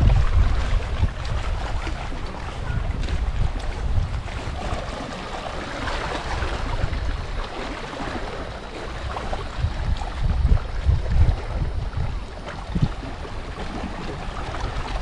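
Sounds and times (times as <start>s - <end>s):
lake water washing: 0.0s - 15.0s
wind buffeting microphone: 0.0s - 15.0s.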